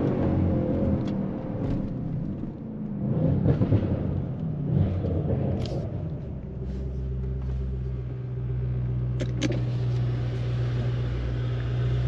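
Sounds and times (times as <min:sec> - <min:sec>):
car engine rumble off throttle: 0:00.0 - 0:12.0.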